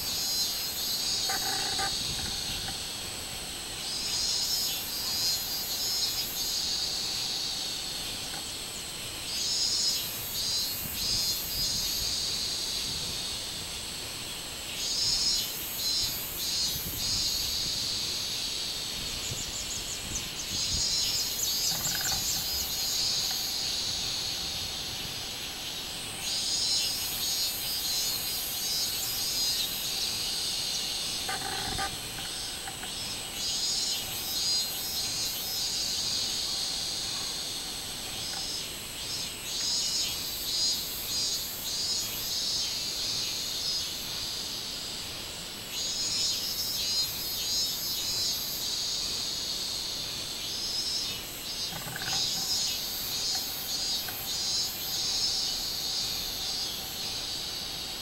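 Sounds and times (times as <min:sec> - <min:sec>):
cicadas pulsing song: 0:00.0 - 0:58.0
high-pitched cicada drone: 0:00.0 - 0:58.0.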